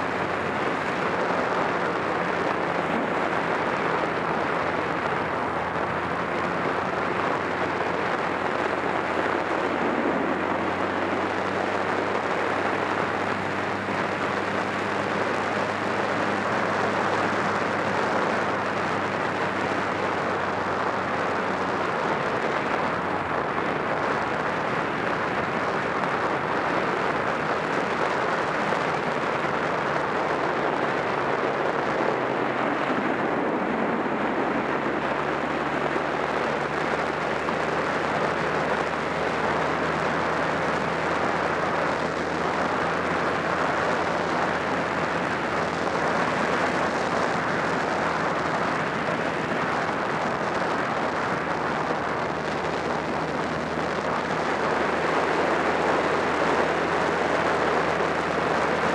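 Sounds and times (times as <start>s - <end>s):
motorcycle engine cruising: 0.0s - 58.9s
wind noise on microphone: 0.0s - 58.9s.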